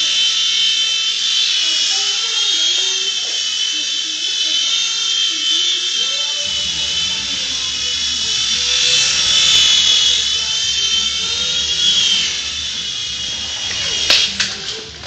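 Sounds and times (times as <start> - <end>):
toy helicopter rotors whining: 0.0 - 15.0.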